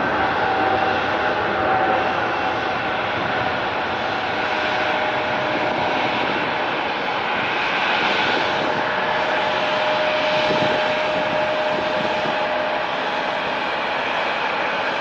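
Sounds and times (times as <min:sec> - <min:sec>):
airliner engines roaring: 0:00.0 - 0:15.0
faint engine whine: 0:00.0 - 0:15.0.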